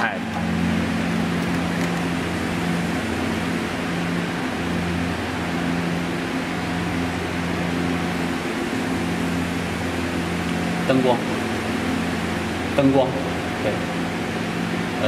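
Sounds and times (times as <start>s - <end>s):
cooling fan noise: 0.0s - 15.0s
low electrical hum: 0.0s - 15.0s.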